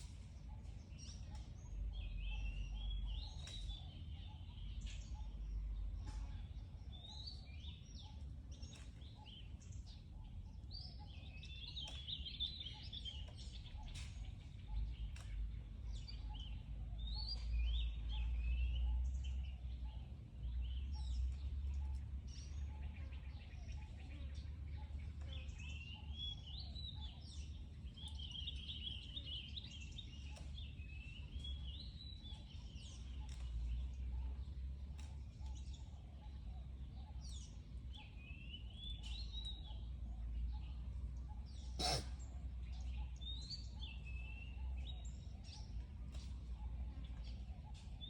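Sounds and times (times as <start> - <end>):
high chirping calls: 7.0 - 48.0.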